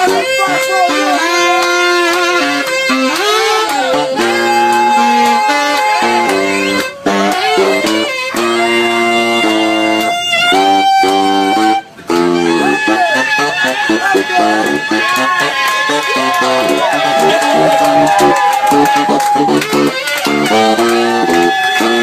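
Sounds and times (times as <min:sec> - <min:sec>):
accompanying chords: 0:00.0 - 0:22.0
saxophone sustained notes: 0:00.0 - 0:22.0.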